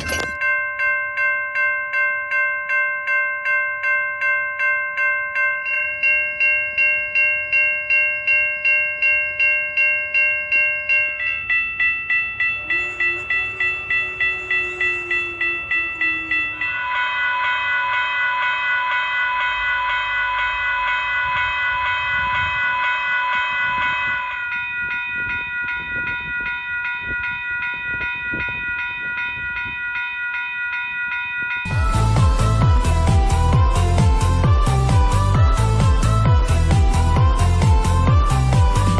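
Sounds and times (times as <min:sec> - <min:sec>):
railroad crossing bells ringing: 0:00.0 - 0:38.9.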